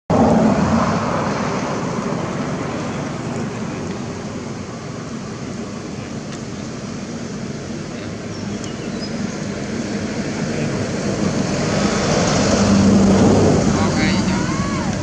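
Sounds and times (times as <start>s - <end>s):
rumbling outdoor background noise: 0.1s - 15.0s.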